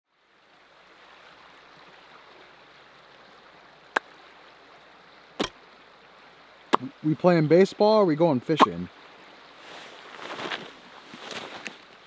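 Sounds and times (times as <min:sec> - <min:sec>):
small creek flowing: 0:00.1 - 0:12.0.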